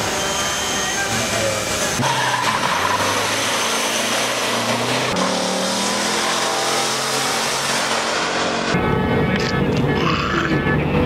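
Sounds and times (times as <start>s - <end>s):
truck engines running hard: 0.0s - 11.0s.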